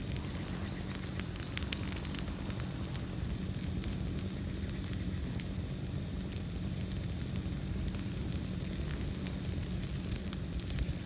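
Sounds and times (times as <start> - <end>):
fire crackling and popping: 0.0 - 11.0
low rumble of fire: 0.0 - 11.0.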